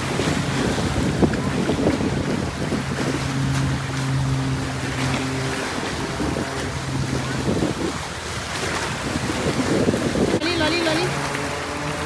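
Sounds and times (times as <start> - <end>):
low engine drone: 0.0 - 12.0
wind buffeting microphone: 0.0 - 12.0.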